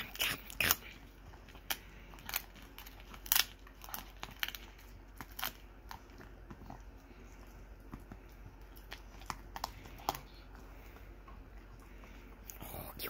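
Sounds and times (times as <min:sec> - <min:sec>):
dog chewing crunchy chew: 0:00.0 - 0:12.6.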